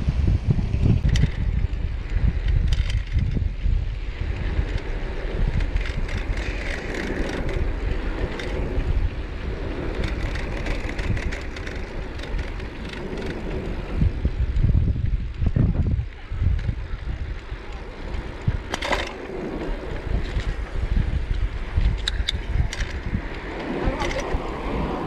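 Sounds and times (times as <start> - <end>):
rumble of riding on rough trail: 0.0 - 25.0
wind buffeting microphone: 0.0 - 25.0.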